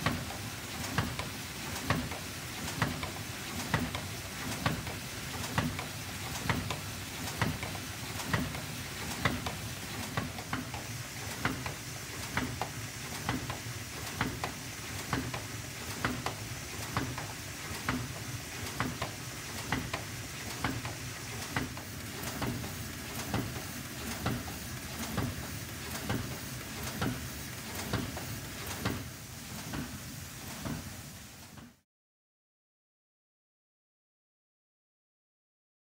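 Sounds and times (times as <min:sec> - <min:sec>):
laminator running: 0:00.0 - 0:31.6.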